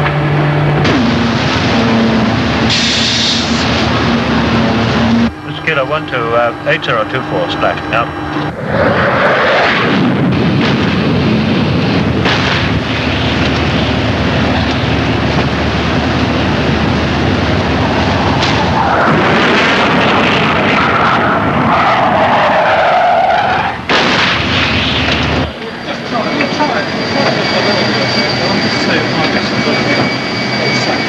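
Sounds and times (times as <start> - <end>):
jet engine running: 0.0 - 31.0
jet passing with whine: 0.0 - 31.0.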